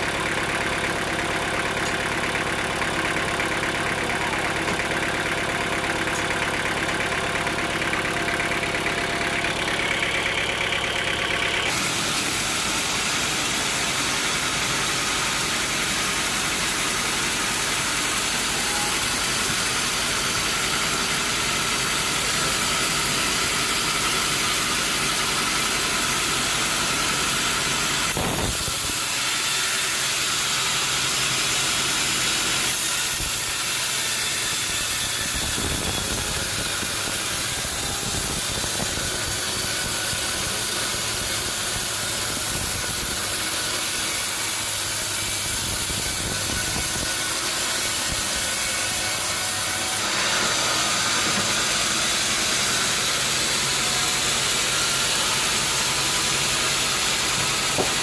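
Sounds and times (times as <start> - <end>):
high hissing saw noise: 11.4 - 58.0.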